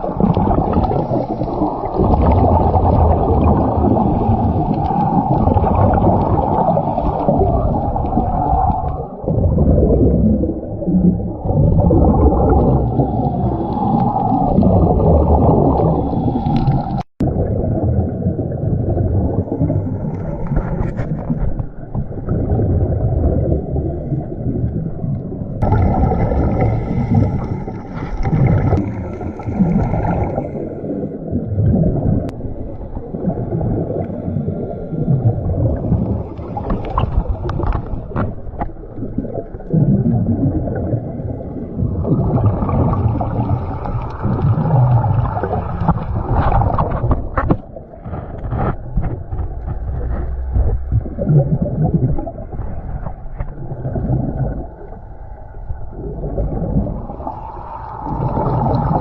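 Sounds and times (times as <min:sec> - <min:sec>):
gurgling bubbles: 0:00.0 - 0:59.0
underwater rumble: 0:00.0 - 0:59.0.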